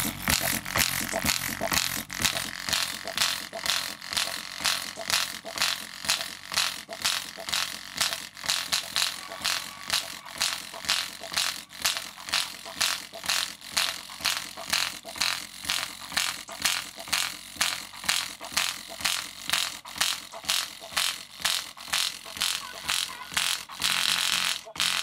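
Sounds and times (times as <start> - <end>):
speaker pulsing with bass: 0.0 - 25.0.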